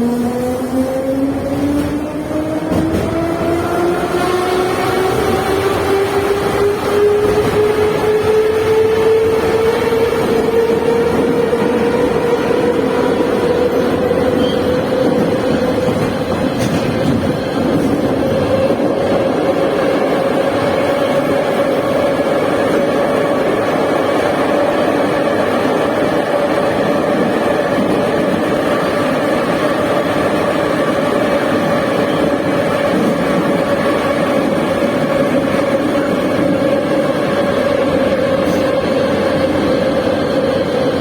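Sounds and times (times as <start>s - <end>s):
train wheels roaring on rails: 0.0s - 41.0s.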